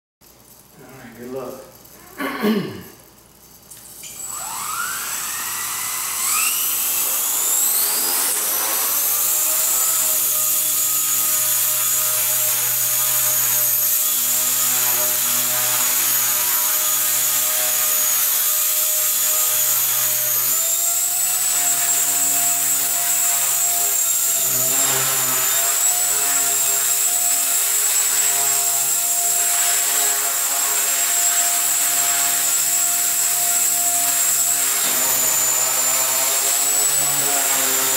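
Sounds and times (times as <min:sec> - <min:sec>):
rc helicopter rotor whine: 0:04.0 - 0:37.9.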